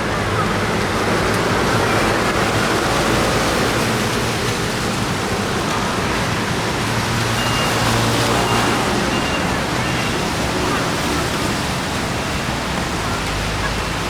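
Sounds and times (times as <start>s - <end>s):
city traffic: 0.0s - 14.0s
rain: 0.0s - 14.0s.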